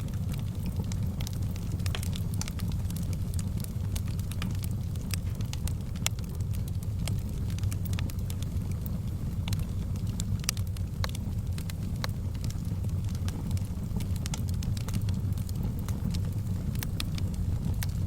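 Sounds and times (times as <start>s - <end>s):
low rush of burning: 0.0s - 18.0s
wood fire crackling: 0.0s - 18.0s.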